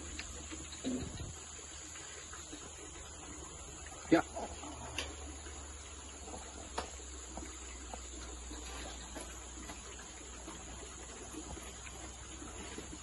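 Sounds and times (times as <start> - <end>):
water sounds: 0.0 - 13.0.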